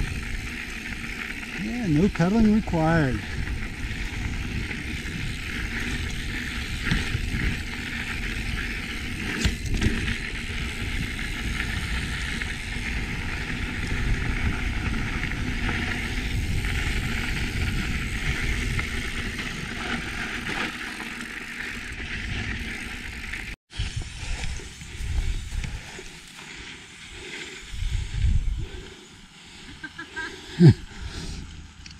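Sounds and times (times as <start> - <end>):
bike tyres rumbling on dirt: 0.0 - 29.1.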